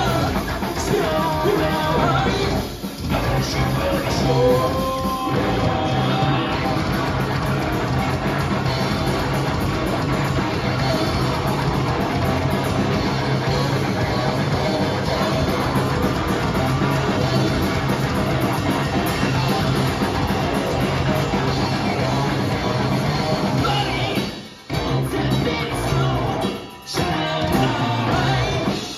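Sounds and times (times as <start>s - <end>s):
bass guitar: 0.0s - 28.9s
distorted electric guitar: 0.0s - 28.9s
drums: 0.0s - 28.9s.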